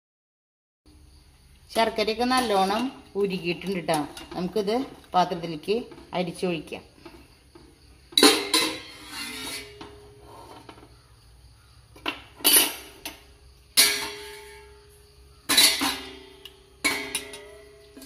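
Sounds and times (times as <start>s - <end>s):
metal kitchen vessels clanking: 1.8s - 6.4s, 7.0s - 11.0s, 11.9s - 18.0s.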